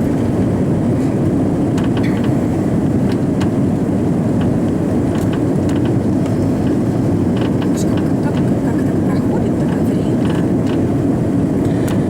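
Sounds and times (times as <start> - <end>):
airflow around fuselage: 0.0 - 12.0
airliner cabin engine rumble: 0.0 - 12.0.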